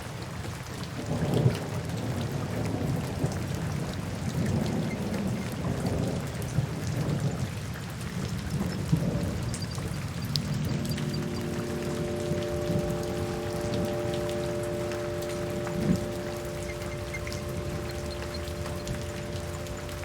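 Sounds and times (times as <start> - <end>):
rain drops ticking: 0.0 - 20.0.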